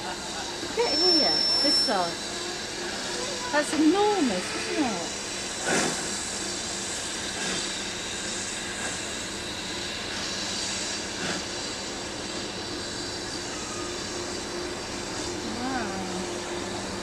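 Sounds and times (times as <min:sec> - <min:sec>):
steam train passing: 0:00.0 - 0:17.0.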